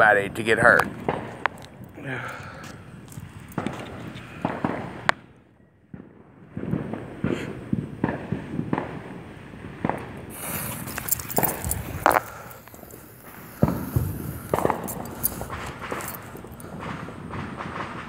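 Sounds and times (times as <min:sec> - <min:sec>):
firecrackers banging: 0:00.0 - 0:18.0.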